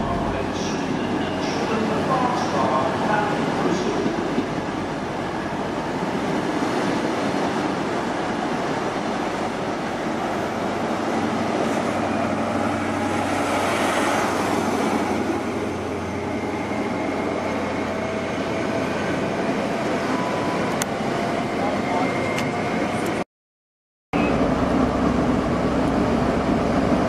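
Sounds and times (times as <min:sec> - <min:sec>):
train coaches rumbling and hissing: 0:00.0 - 0:23.2, 0:24.2 - 0:27.0.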